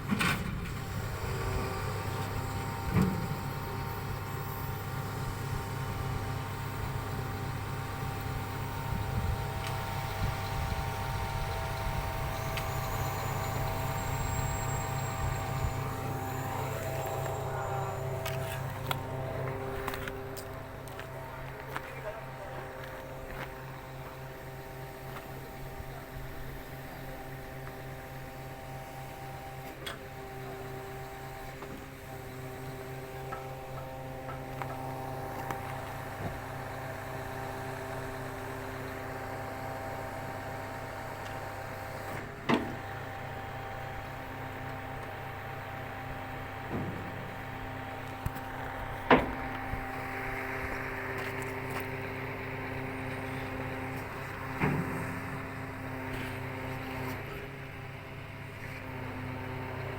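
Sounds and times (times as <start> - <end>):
machine engine humming: 0.0 - 59.9.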